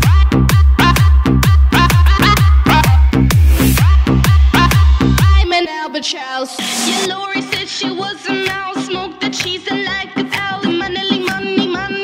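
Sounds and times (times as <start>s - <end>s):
upbeat dance music: 0.0s - 12.0s.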